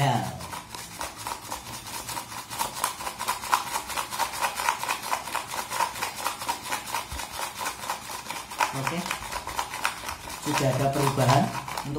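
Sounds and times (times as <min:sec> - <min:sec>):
whisk clicking and splashing: 0:00.0 - 0:11.9.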